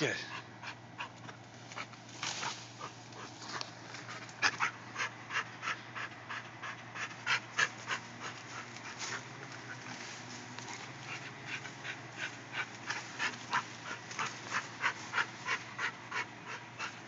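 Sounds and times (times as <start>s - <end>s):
dog panting hard: 0.2s - 1.9s, 2.8s - 9.9s, 10.6s - 17.0s.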